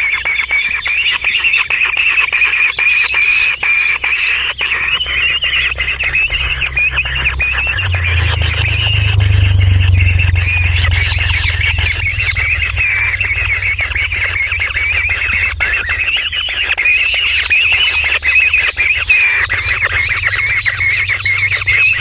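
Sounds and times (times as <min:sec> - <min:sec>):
birds chirping: 0:00.0 - 0:22.0
pulsing insect drone: 0:00.0 - 0:22.0.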